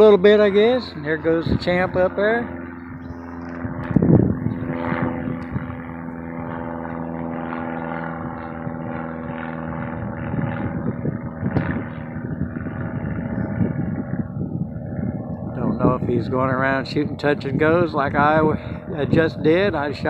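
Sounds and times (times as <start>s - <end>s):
propeller airplane engine: 0.0s - 20.0s.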